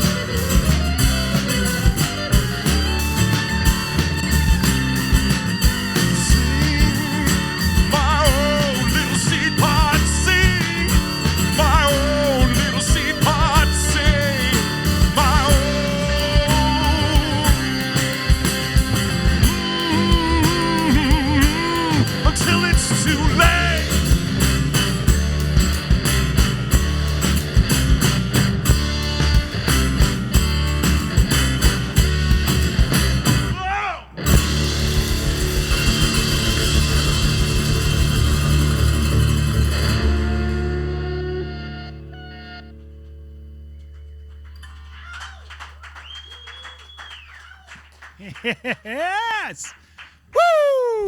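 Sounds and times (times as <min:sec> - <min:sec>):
rock band playing: 0:00.0 - 0:42.6.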